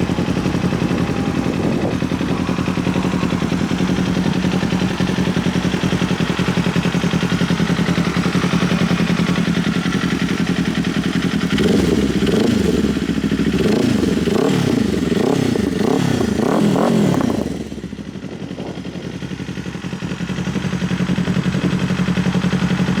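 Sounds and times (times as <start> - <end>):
motorcycle throttle blips: 0.0 - 19.5
motorcycle engine idling: 0.0 - 23.0.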